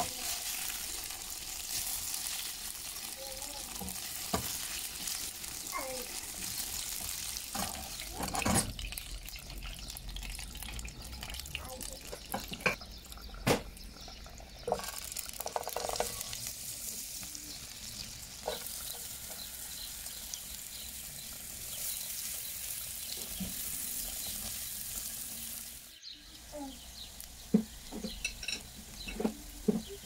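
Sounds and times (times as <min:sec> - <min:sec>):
onion sizzling in a frying pan: 0:00.0 - 0:30.0.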